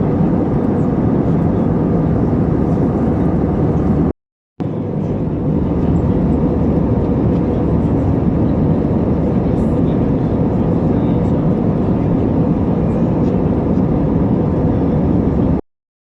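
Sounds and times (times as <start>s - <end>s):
airliner cabin engine rumble: 0.0s - 15.6s.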